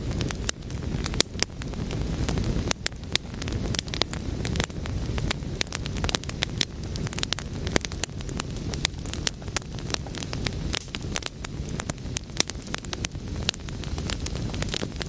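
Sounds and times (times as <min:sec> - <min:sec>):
logs crackling and popping: 0:00.0 - 0:15.0
wood fire burning: 0:00.0 - 0:15.0.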